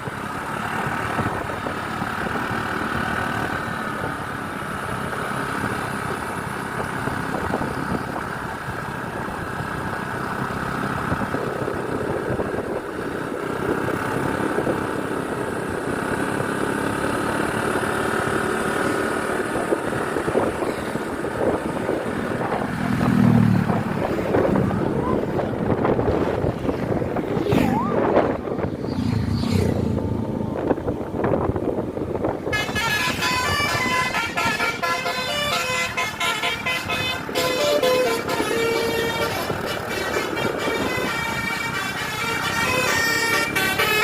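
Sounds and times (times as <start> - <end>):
bus engine and road noise: 0.0 - 44.0.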